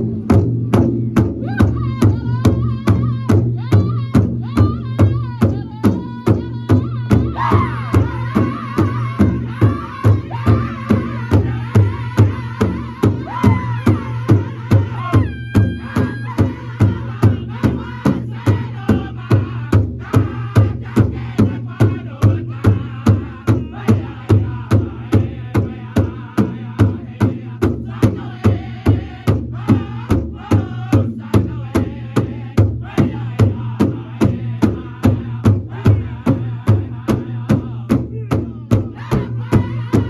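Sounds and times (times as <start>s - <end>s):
steady big drumbeat: 0.0s - 40.0s
voices singing together: 1.4s - 40.0s.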